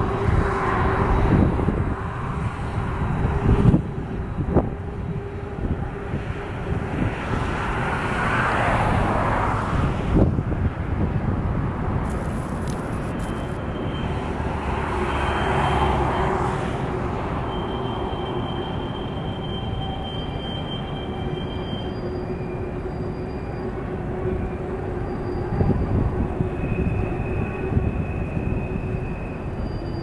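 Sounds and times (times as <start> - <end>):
distant freight train rumbling: 0.0 - 30.0.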